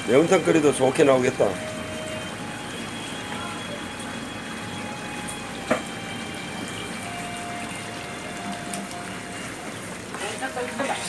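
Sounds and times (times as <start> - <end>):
running water: 0.0 - 11.0.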